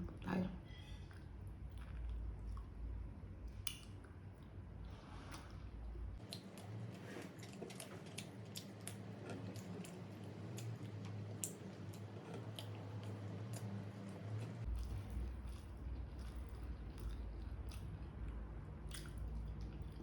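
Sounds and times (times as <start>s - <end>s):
close chewing mouth sounds: 1.1s - 20.0s.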